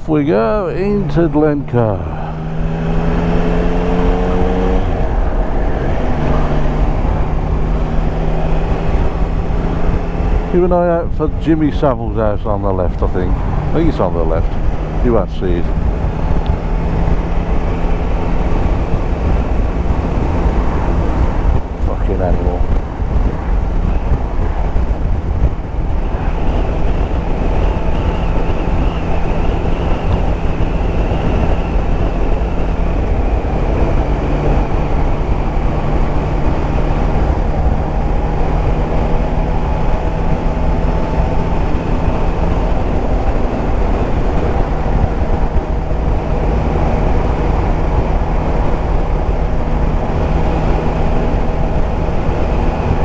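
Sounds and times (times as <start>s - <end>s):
motorcycle engine cruising: 0.0s - 53.0s
road noise: 0.0s - 53.0s
wind noise on microphone: 0.0s - 53.0s.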